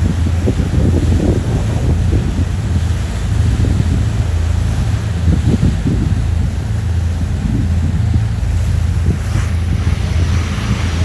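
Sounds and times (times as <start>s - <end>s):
boat engine drone: 0.0s - 11.0s
water rushing past hull: 0.0s - 11.0s
wind buffeting microphone: 0.0s - 11.0s.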